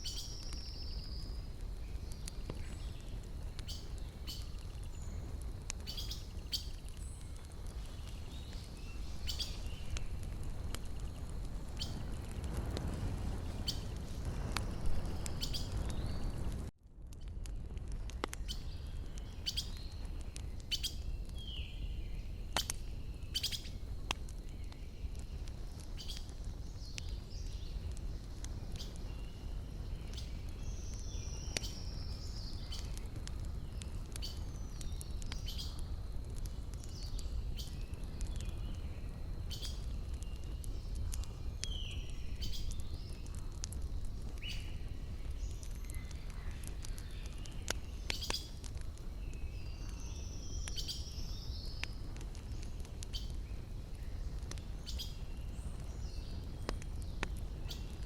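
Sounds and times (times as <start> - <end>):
small birds chirping: 0.0 - 12.4, 13.3 - 17.6, 18.2 - 58.0
wood fire crackling and popping: 0.0 - 58.0.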